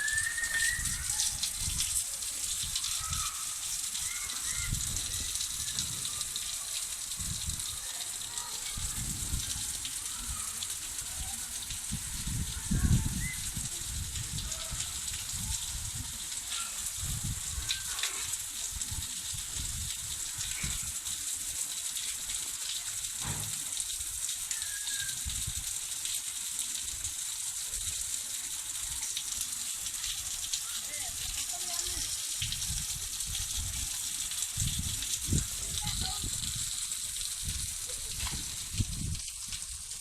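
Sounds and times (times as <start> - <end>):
heavy rain: 0.0 - 40.0
rushing water: 0.0 - 40.0.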